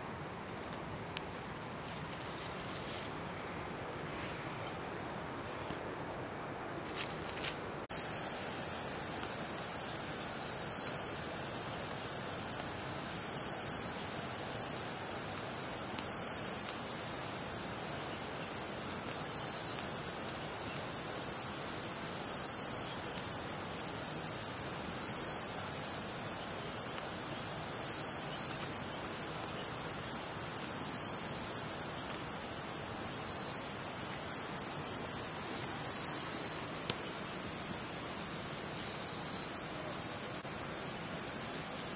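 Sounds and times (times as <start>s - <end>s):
high-pitched insect chorus: 6.8s - 41.9s.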